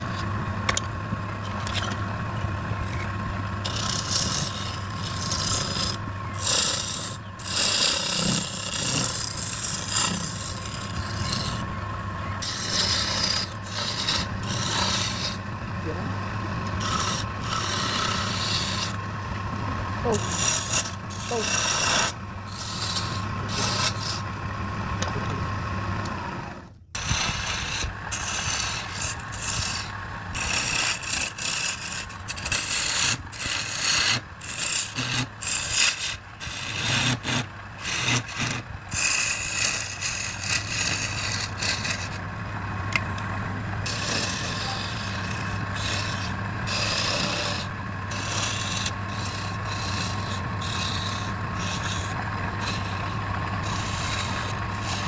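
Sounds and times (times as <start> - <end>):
steady low hum: 0.0 - 55.0
hand tool scraping wood: 2.8 - 24.3, 27.0 - 55.0.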